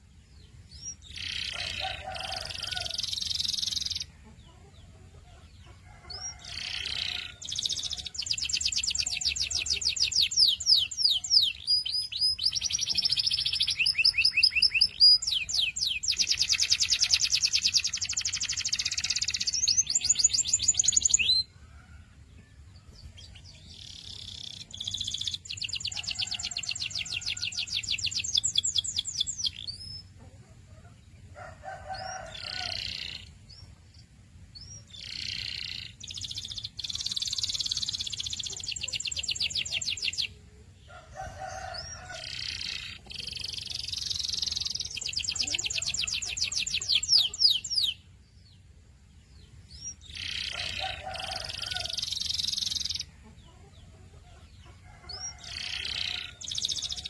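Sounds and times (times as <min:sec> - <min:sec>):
canary singing: 0:00.7 - 0:21.9, 0:22.9 - 0:30.2, 0:30.9 - 0:33.8, 0:34.6 - 0:48.7, 0:49.4 - 0:57.0.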